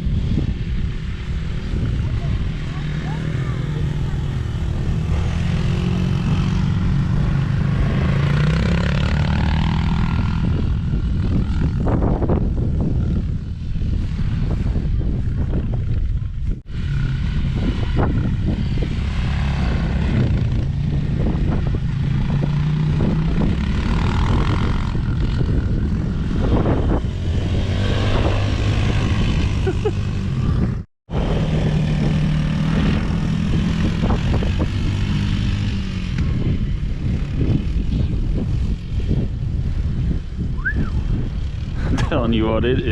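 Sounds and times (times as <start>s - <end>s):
small dirt bike engine revving: 0.0s - 15.2s, 16.7s - 42.2s.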